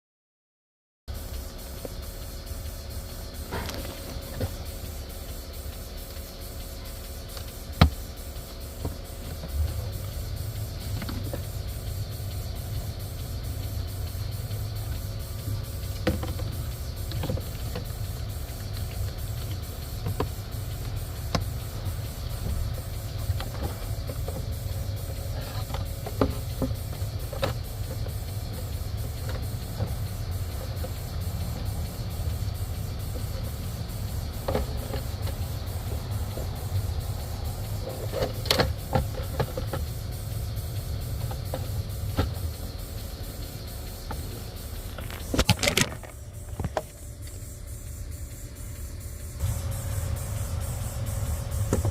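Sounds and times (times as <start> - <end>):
truck engine low rumble: 1.1 - 51.9.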